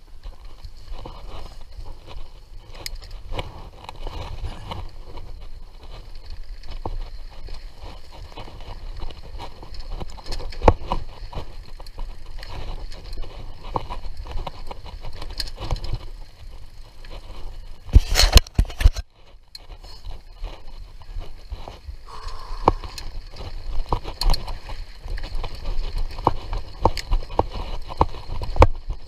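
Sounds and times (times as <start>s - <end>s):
bike clicks and rattles: 0.0s - 29.0s.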